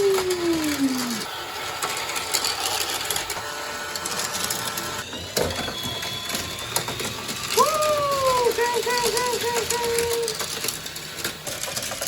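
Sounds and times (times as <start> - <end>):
toy mechanism whirring: 0.0 - 12.0.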